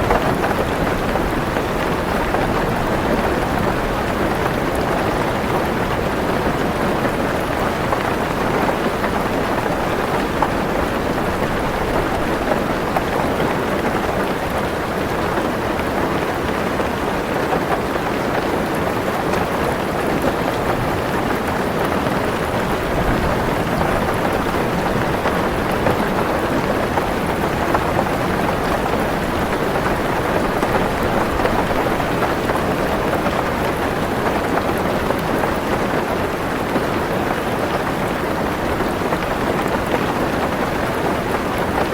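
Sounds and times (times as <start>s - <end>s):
rain on a car roof: 0.0s - 41.9s.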